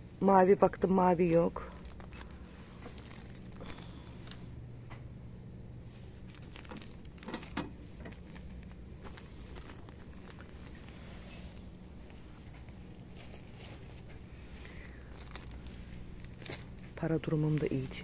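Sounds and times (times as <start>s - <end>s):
low hum of shop background: 0.0s - 18.0s
faint rustling and handling: 0.7s - 18.0s.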